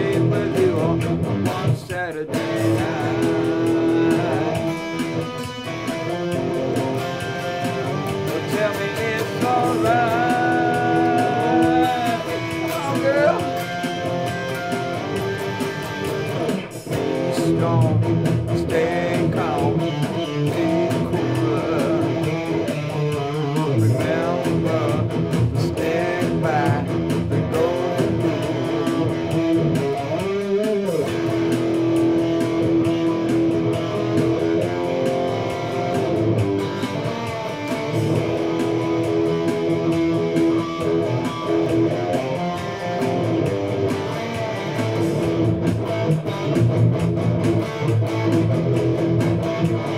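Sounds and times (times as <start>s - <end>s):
electric guitar solo: 0.0s - 49.9s.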